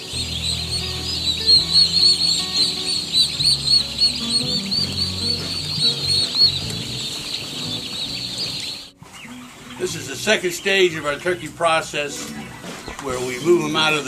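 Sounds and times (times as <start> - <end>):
background music with low notes: 0.0 - 14.0
turkey poults peeping: 0.0 - 14.0.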